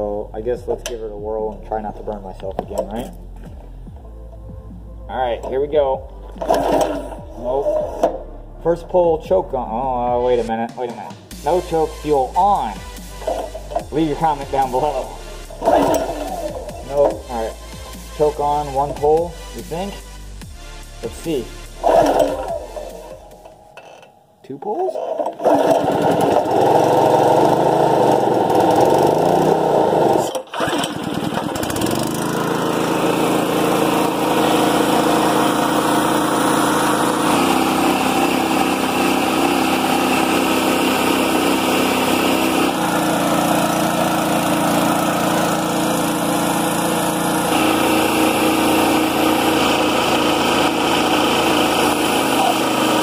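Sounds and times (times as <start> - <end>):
engine running: 0.0 - 10.5, 11.3 - 24.2, 25.2 - 53.0
compressor pump: 6.0 - 8.4, 11.3 - 24.2, 25.0 - 53.0.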